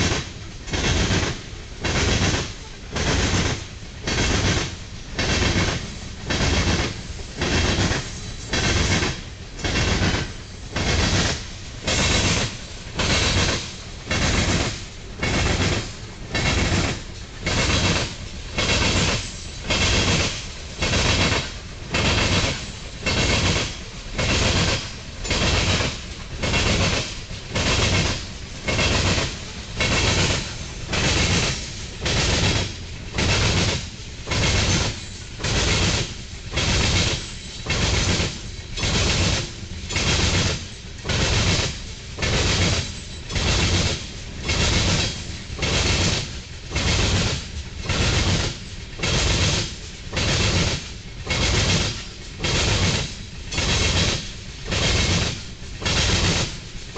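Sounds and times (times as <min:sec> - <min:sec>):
train wheels clacking over rail joints: 0:00.0 - 0:56.9.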